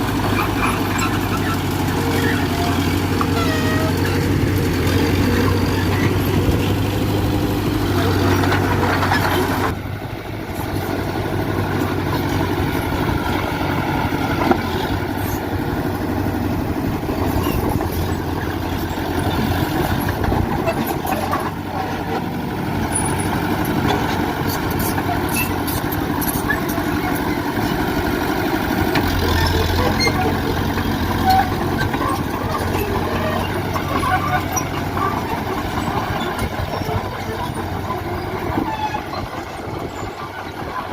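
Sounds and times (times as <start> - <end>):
diesel machinery engine running: 0.0 - 40.9.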